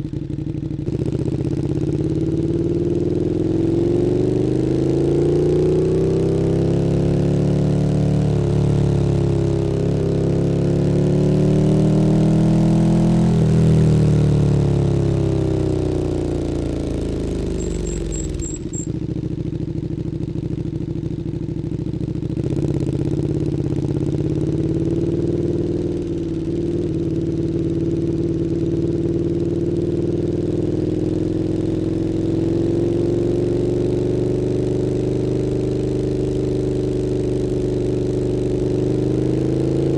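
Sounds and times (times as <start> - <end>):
motorcycle engine revving: 0.4 - 39.9.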